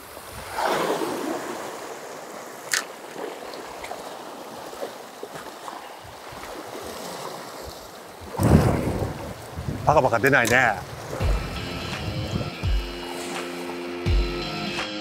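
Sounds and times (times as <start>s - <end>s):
waves washing on rocky shore: 0.0s - 13.8s.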